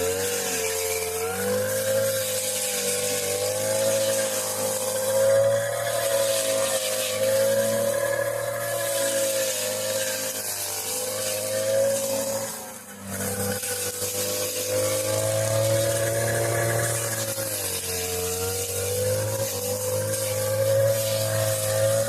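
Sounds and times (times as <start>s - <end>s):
lawn mower engine running hard: 0.0s - 22.0s.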